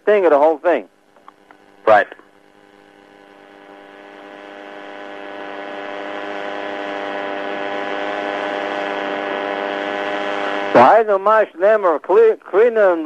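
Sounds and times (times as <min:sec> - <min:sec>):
steady hum with overtones: 0:00.0 - 0:13.0.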